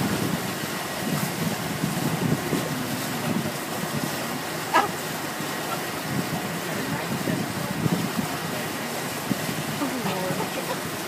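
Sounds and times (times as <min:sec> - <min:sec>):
wind rushing over microphone: 0:00.0 - 0:05.0, 0:05.7 - 0:11.0.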